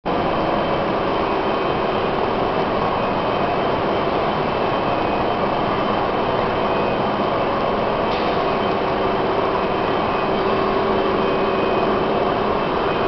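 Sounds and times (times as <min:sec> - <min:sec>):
machinery drone: 0:00.1 - 0:13.0
machine whining tones: 0:00.2 - 0:13.0.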